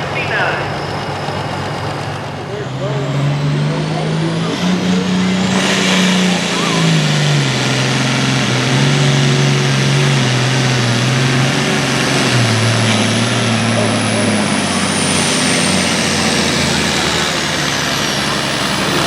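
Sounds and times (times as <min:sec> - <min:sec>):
tractor diesel engine at full power: 0:00.0 - 0:19.0.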